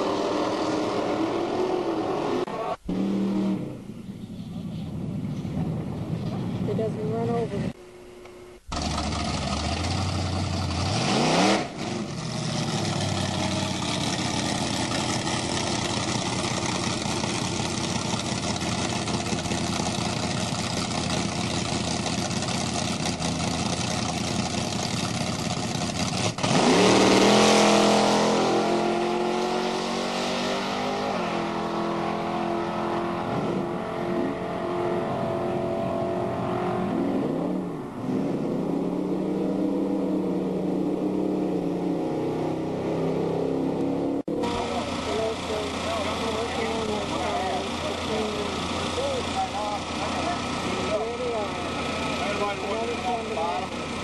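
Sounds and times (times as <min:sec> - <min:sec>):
drag car engine revving: 0:08.6 - 0:54.0
engine note rising sharply: 0:08.7 - 0:54.0.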